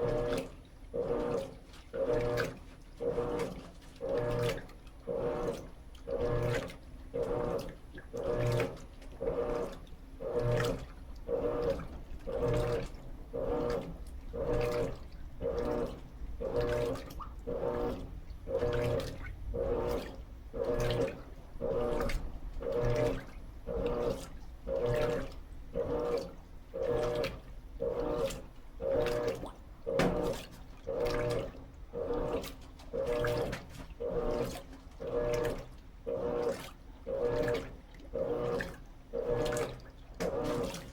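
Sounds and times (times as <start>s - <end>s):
washing machine agitating: 0.0s - 40.9s
water sloshing: 0.0s - 40.9s.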